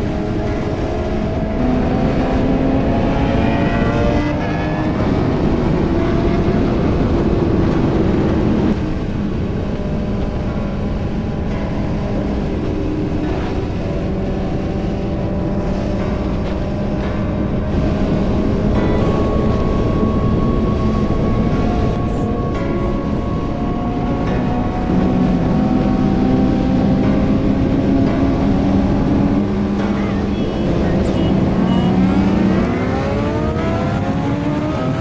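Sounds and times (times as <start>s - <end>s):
motorcycle engine accelerating: 0.0s - 35.0s
wind noise: 0.0s - 35.0s.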